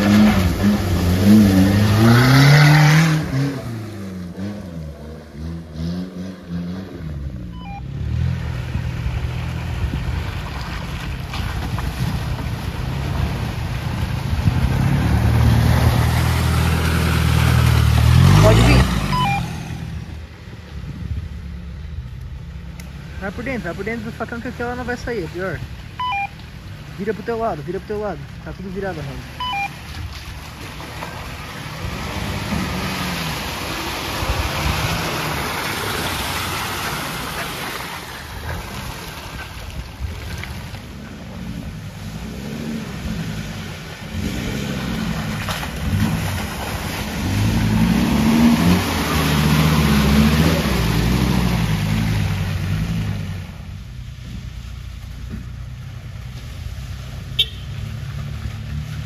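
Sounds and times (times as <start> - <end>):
off-road engines revving: 0.0 - 59.0
tyres churning mud and water: 0.0 - 59.0.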